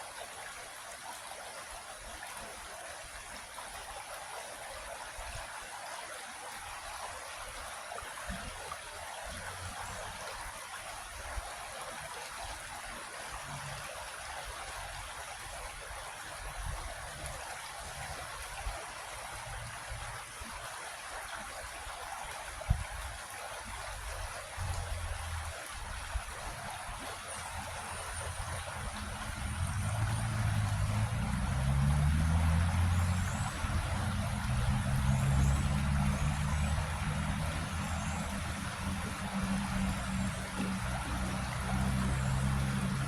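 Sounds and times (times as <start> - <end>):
water babbling over rocks: 0.0 - 43.0.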